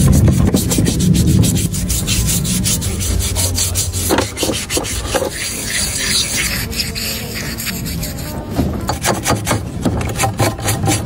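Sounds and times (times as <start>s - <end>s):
rubbing and scraping strokes: 0.0s - 11.0s
steady low hum: 0.0s - 11.0s.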